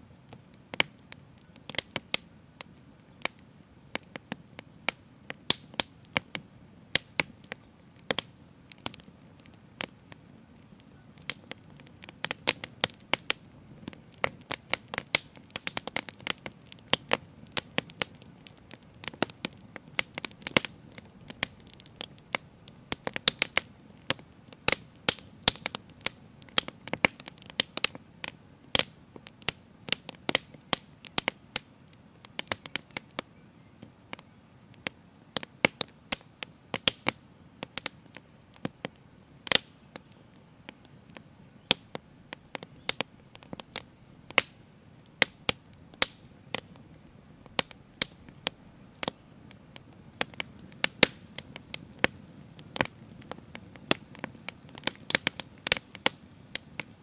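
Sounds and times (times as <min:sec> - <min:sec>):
open fire crackling: 0:00.0 - 0:57.0.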